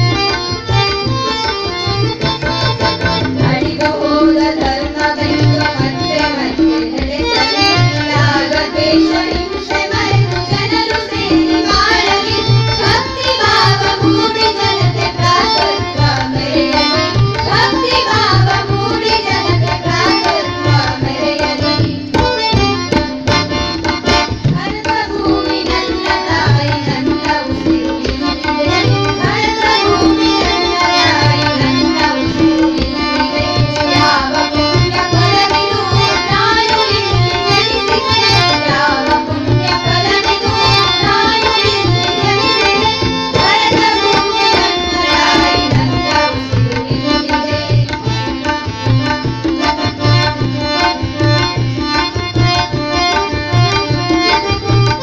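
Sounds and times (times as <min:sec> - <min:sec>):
harmonium: 0:00.0 - 0:55.0
tabla drum rhythm: 0:00.0 - 0:55.0
women singing in unison: 0:02.8 - 0:22.7, 0:24.4 - 0:55.0.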